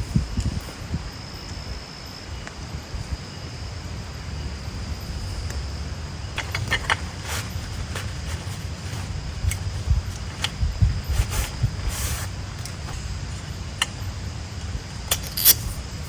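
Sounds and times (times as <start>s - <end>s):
high insect tone: 0.0s - 16.0s.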